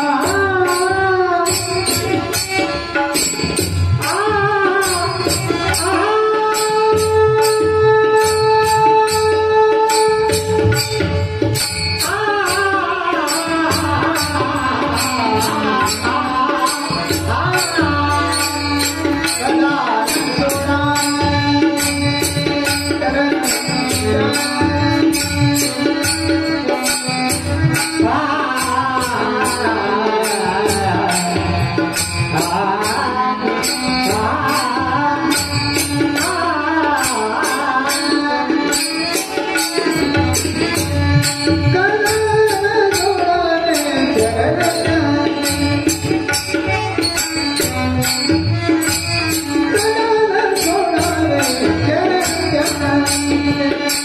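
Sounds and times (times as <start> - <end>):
man singing: 0.0 - 54.0.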